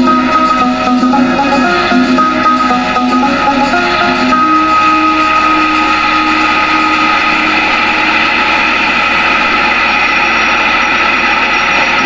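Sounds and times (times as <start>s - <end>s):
wheels on rails: 0.0s - 12.0s.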